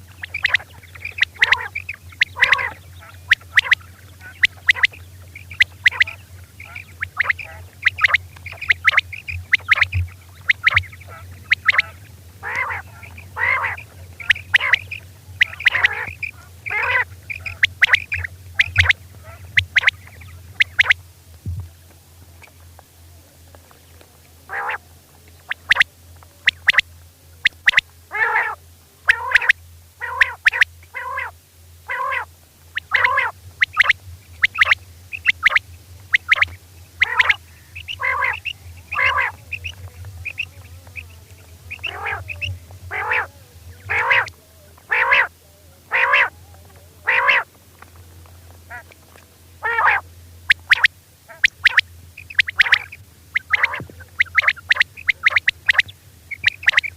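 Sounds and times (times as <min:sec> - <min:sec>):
quail calling: 0:00.0 - 0:21.0, 0:24.5 - 0:24.8, 0:25.4 - 0:47.6, 0:48.5 - 0:56.9
steady low hum: 0:00.0 - 0:56.9.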